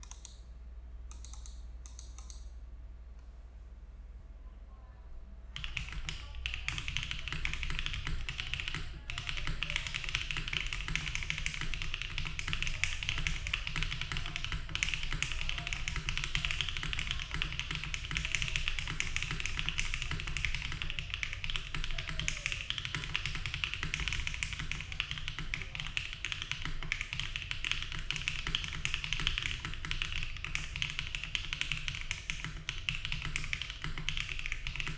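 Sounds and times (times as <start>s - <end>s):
mechanical keyboard typing: 1.1s - 2.5s, 5.6s - 34.9s.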